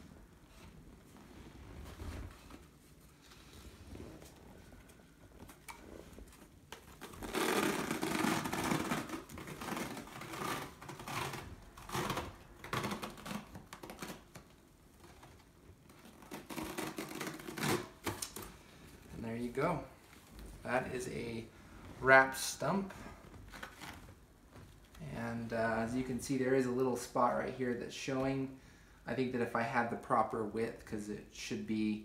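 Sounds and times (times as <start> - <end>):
elastic bandage crackling: 0.2 - 27.6.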